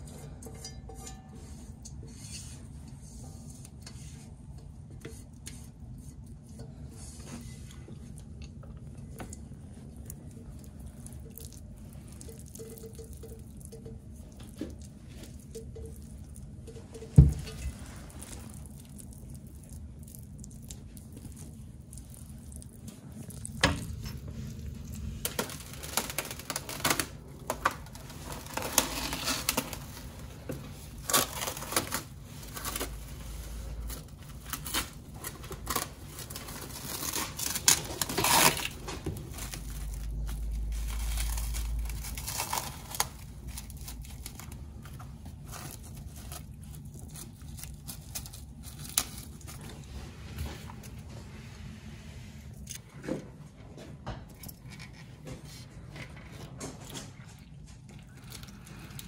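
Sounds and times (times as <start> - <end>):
crinkling and rustling: 0.0 - 59.0.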